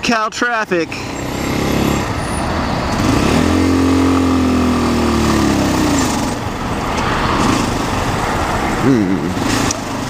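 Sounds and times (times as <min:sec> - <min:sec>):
wind and road noise: 0:00.0 - 0:10.0
motorcycle engine revving: 0:00.9 - 0:10.0.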